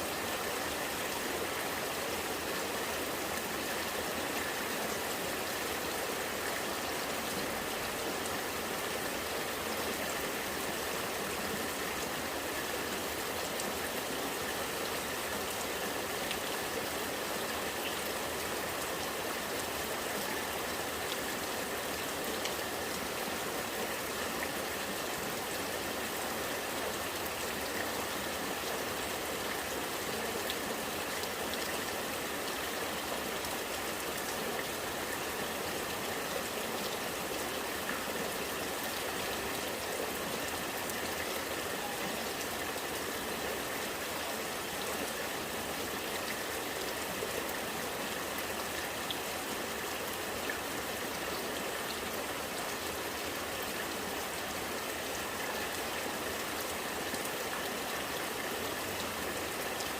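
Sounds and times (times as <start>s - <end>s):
rainwater running and gurgling: 0.0s - 59.9s.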